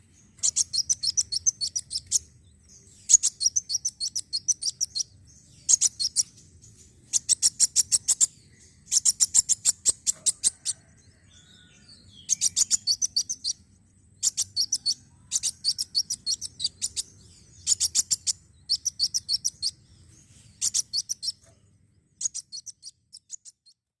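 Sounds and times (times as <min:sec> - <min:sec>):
sunbird chipping trills: 0:00.0 - 0:23.8.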